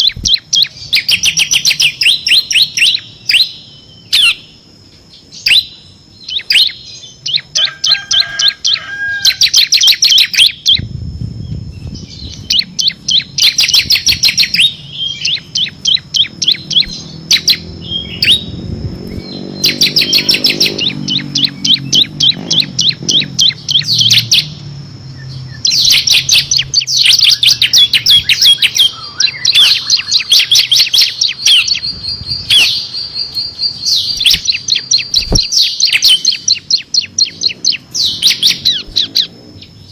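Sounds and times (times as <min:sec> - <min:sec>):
bird singing rattling trills: 0:00.0 - 0:39.9.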